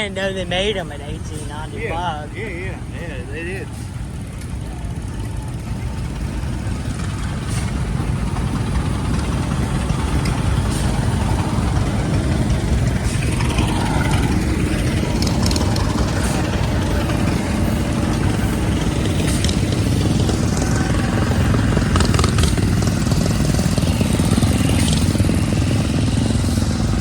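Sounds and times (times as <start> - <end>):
engine rumbling: 0.0 - 27.0.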